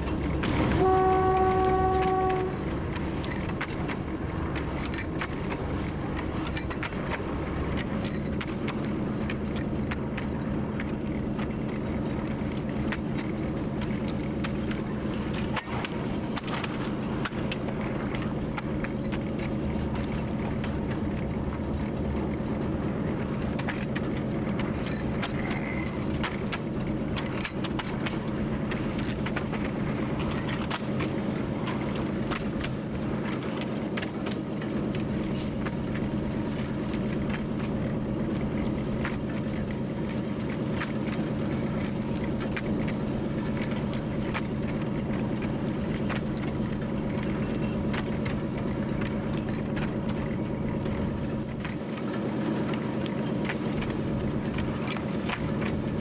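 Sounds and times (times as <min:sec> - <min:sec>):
clicks and rattles on track: 0:00.0 - 0:56.0
diesel locomotive engine running: 0:00.0 - 0:56.0.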